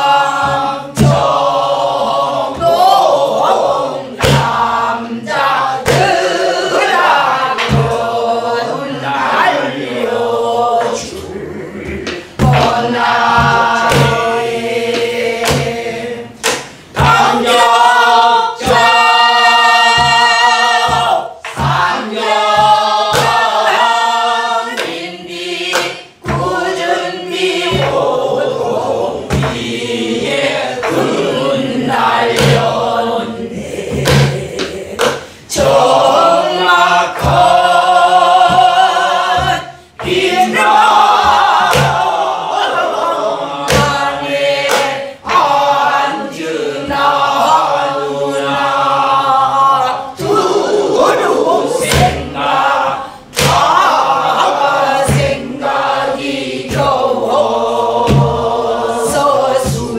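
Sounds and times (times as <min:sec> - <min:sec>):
group singing folk song: 0:00.0 - 0:59.9
barrel drum strokes: 0:00.2 - 0:43.0, 0:50.2 - 0:59.9.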